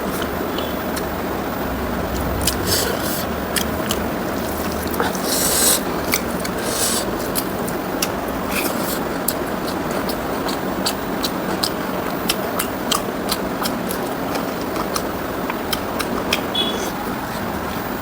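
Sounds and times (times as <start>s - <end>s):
chewing food: 1.8s - 17.8s.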